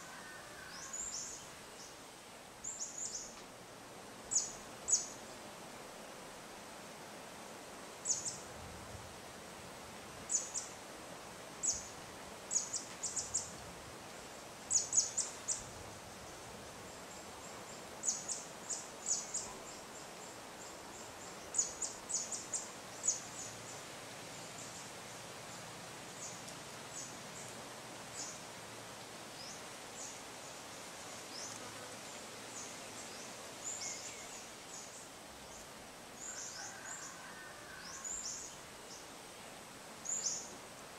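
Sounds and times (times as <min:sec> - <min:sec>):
light wind: 0:00.0 - 0:40.9.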